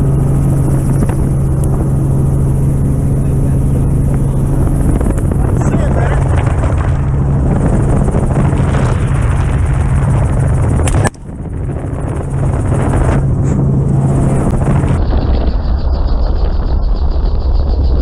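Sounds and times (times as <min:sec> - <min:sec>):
helicopter rotor and engine: 0:00.0 - 0:18.0
wind rushing: 0:00.0 - 0:18.0.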